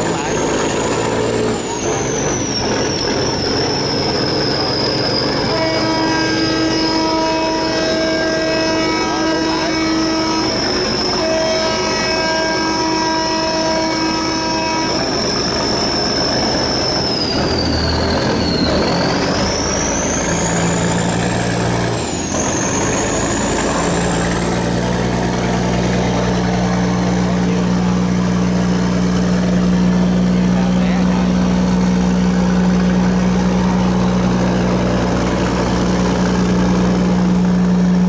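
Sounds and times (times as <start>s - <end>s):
diesel engines running hard: 0.0s - 38.0s
high whine: 0.0s - 38.0s.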